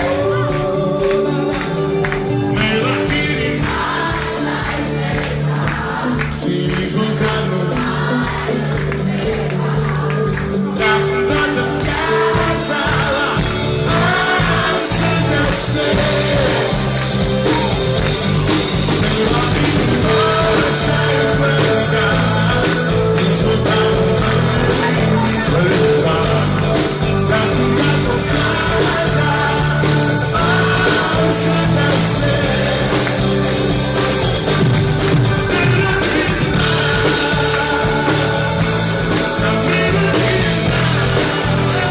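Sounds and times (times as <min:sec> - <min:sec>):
man singing: 0:00.0 - 0:04.3, 0:06.3 - 0:08.6, 0:10.6 - 0:34.6, 0:35.3 - 0:41.9
drum kit: 0:00.0 - 0:41.9
electric guitar: 0:00.0 - 0:41.9.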